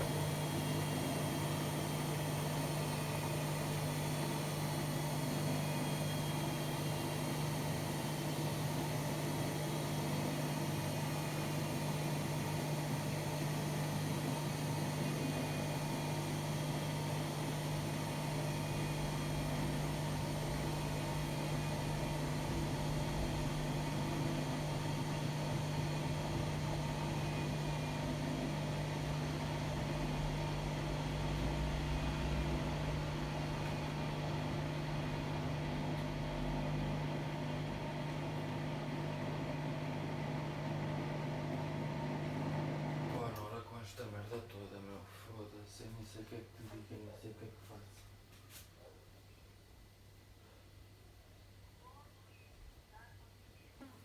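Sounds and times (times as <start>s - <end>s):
washer-dryer humming: 0.0s - 43.9s.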